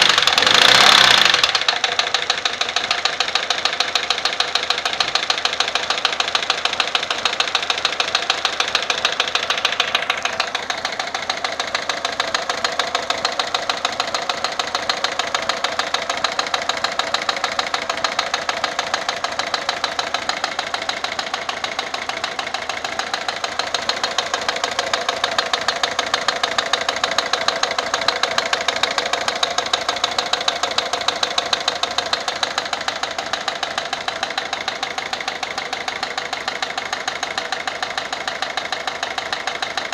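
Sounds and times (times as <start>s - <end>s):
diesel engine idling: 0.0s - 39.9s
regular knocking tick: 0.0s - 39.9s.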